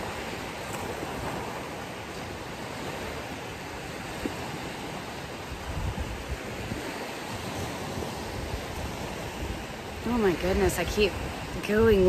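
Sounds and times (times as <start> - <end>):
ocean waves washing onto beach: 0.0 - 12.0.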